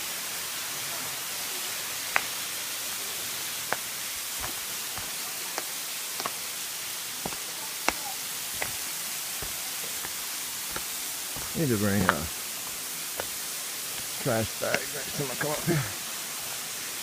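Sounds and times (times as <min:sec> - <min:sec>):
waterfall hiss: 0:00.0 - 0:17.0.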